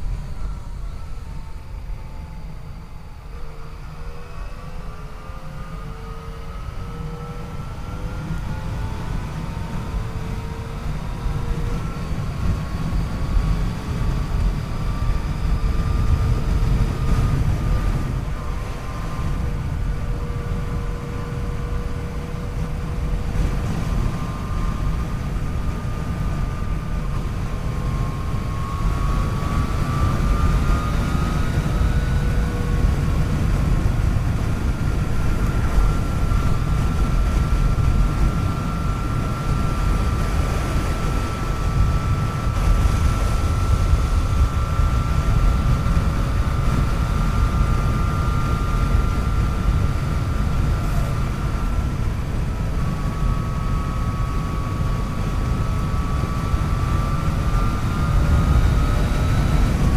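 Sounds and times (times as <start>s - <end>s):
motorcycle engine whine: 0.0s - 59.9s
wind noise: 0.0s - 59.9s.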